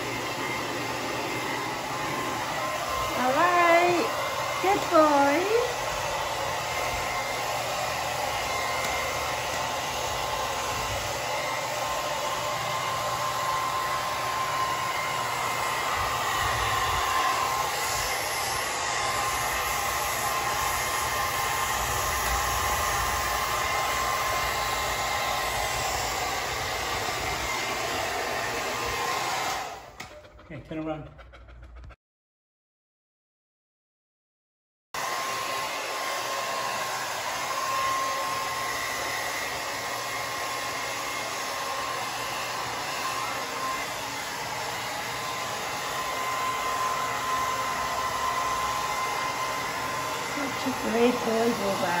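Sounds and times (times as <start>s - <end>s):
hair dryer blowing: 0.0s - 31.0s, 35.0s - 52.0s.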